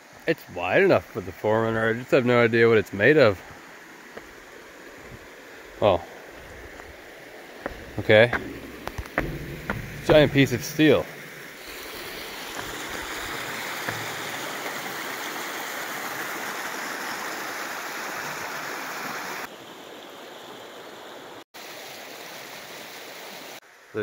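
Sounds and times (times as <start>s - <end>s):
stream rushing over boulders: 0.0s - 23.9s.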